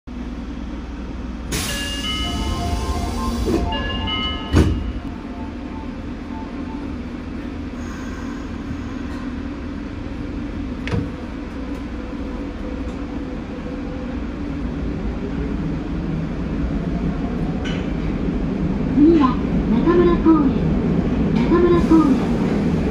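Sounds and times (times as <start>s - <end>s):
train rumble: 0.1s - 22.9s.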